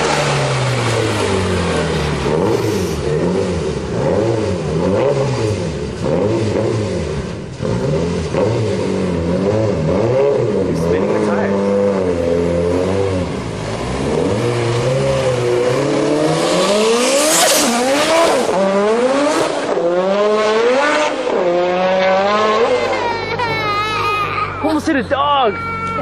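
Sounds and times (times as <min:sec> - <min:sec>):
turbocharged engine revving hard: 0:00.0 - 0:23.2.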